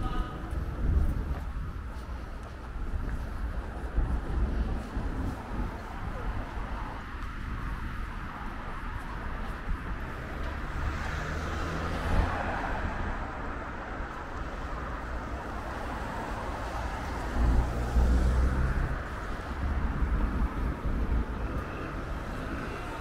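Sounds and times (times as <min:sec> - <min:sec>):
hum of traffic: 0:00.0 - 0:23.0
vehicles passing close: 0:00.0 - 0:23.0.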